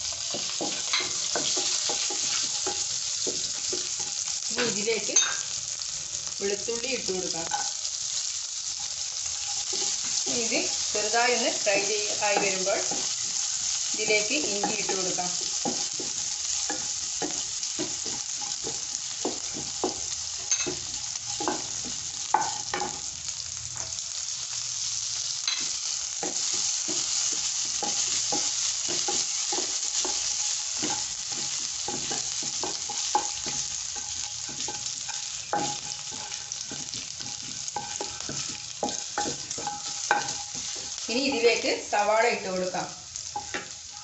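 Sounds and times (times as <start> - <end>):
spices sizzling in hot oil: 0.0 - 44.0.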